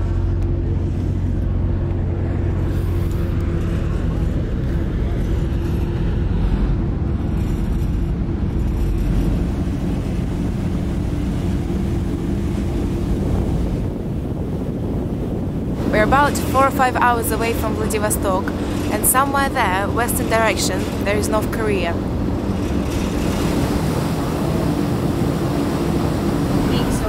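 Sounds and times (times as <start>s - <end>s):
sea and wind noise: 0.0s - 27.0s
ship engines droning: 0.0s - 27.0s.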